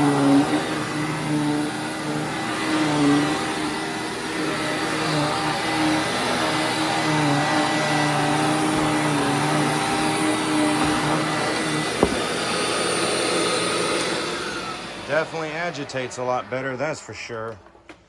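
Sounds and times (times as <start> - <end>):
vacuum cleaner running: 0.0 - 17.2.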